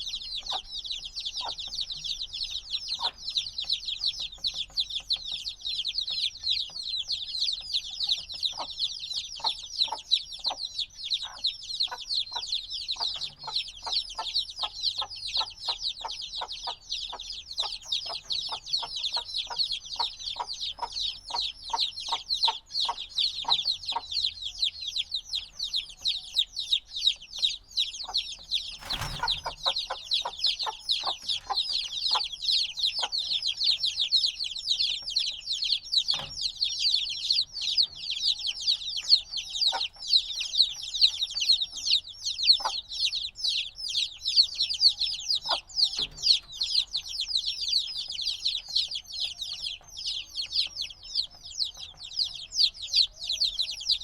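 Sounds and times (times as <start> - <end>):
chicks chirping: 0.0 - 54.0.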